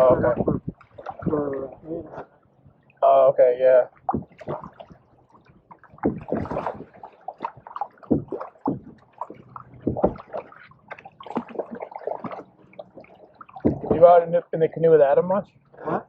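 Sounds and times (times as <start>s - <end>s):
canoe paddles splashing in water: 0.0s - 3.0s, 3.9s - 14.3s.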